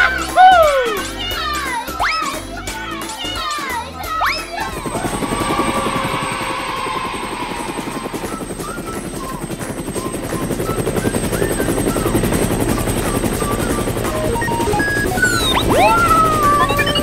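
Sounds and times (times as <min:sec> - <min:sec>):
helicopter rotor chopping: 0:00.0 - 0:17.0.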